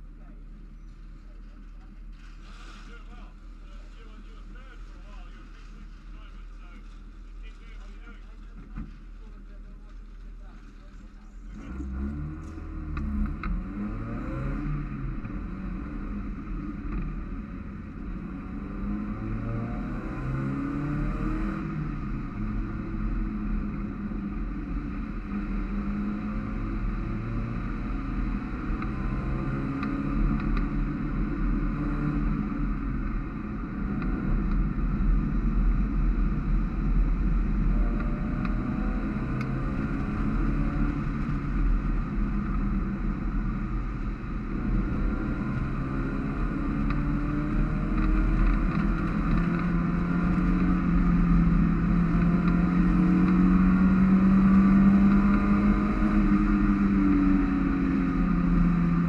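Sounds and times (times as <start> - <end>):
wind and road noise: 0.0 - 59.0
race car engine accelerating: 11.4 - 59.0.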